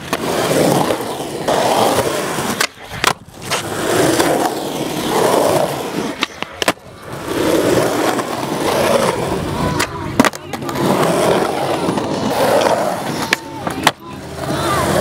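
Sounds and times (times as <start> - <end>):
skateboard clacks: 0.0 - 15.0
skateboard wheels rolling on concrete: 0.0 - 15.0.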